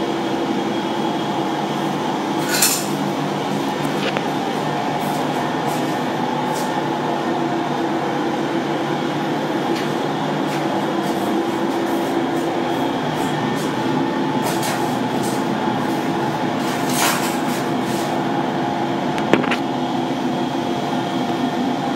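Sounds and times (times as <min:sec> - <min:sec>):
electric motors and blowers droning: 0:00.0 - 0:21.9.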